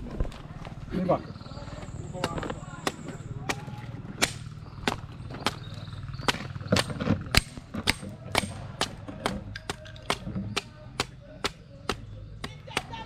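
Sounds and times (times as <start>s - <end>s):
machetes chopping wood: 2.2s - 13.0s.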